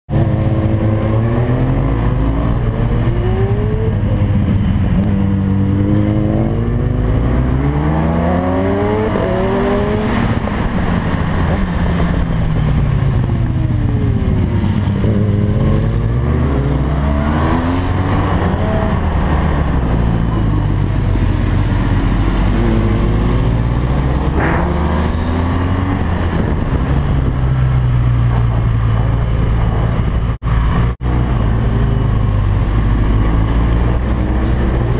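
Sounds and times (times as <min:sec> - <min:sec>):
motorcycle engine accelerating: 0:00.1 - 0:34.9
rushing noise: 0:00.1 - 0:34.9.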